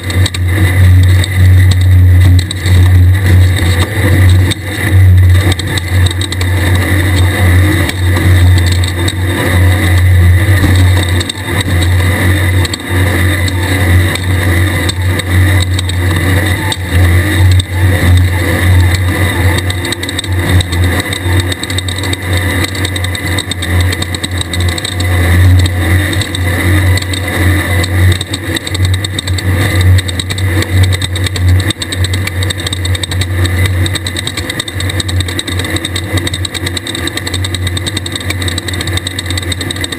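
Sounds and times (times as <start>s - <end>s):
buggy engine running hard: 0.0s - 39.9s.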